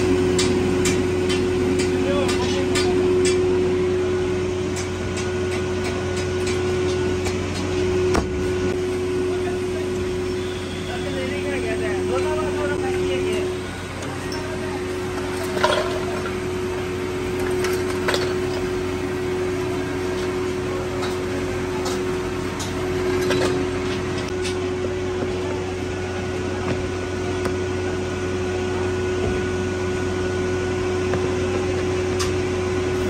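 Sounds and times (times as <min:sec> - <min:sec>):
foundry machinery humming: 0:00.0 - 0:33.0.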